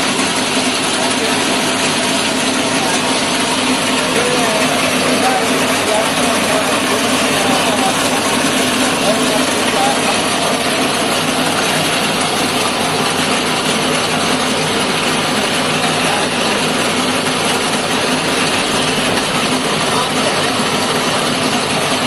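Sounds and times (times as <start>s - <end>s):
machine mechanical din: 0.0s - 22.0s.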